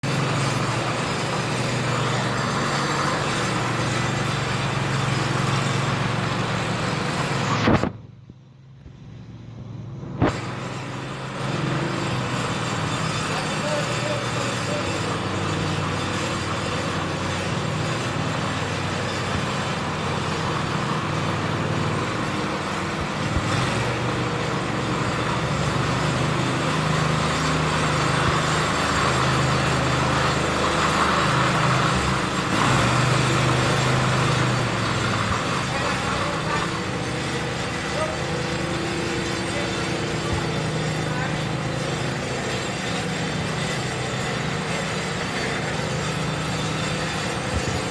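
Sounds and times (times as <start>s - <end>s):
power trowel engine running: 0.0s - 8.0s, 9.4s - 47.9s.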